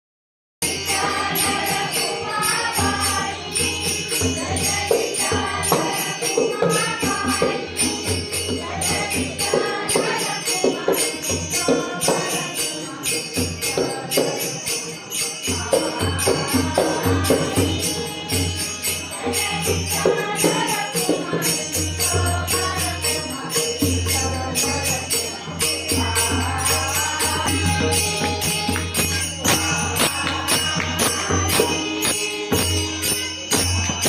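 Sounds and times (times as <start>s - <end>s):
jingling percussion: 0.6s - 34.0s.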